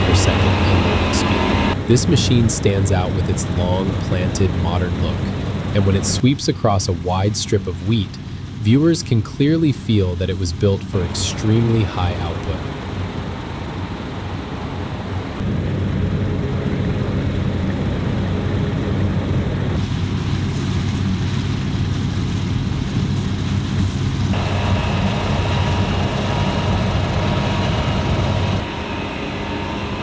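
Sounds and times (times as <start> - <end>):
combine harvester running: 0.0 - 10.0, 10.8 - 30.0.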